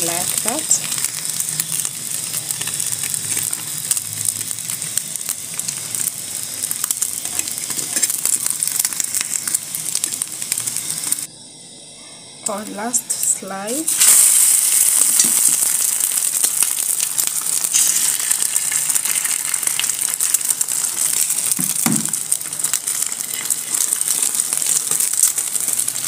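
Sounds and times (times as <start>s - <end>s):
oil sizzling in a frying pan: 0.0s - 11.3s, 12.0s - 26.0s.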